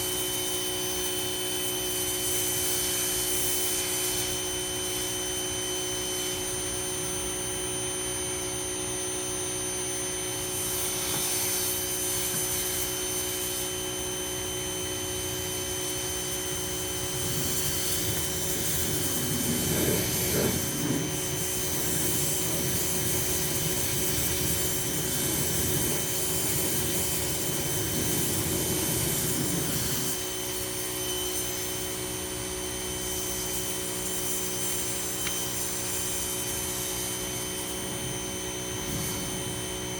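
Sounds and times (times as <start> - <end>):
spray rushing hiss: 0.0 - 7.8, 10.0 - 39.9
pressure washer whining: 0.0 - 39.9.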